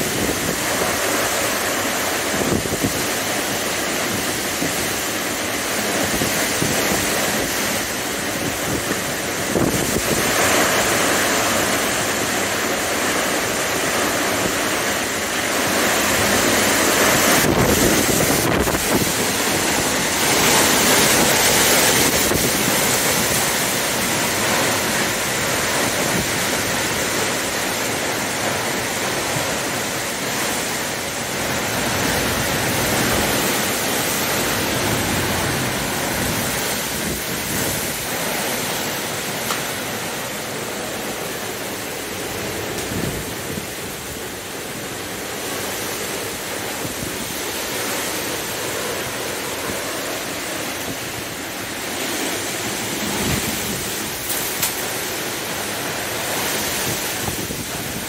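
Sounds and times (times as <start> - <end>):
wind buffeting microphone: 0.0 - 58.0
wind rushing through trees: 0.0 - 58.0.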